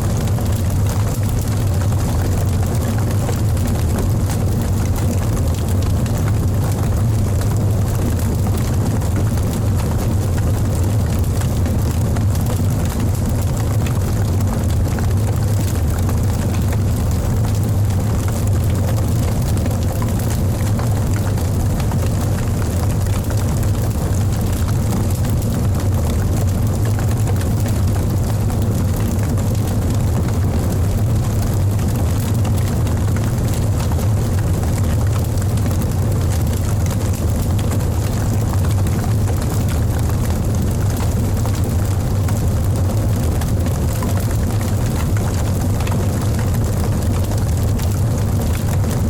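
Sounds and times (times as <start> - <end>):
fire crackles: 0.0 - 49.0
fire rumbling: 0.0 - 49.0.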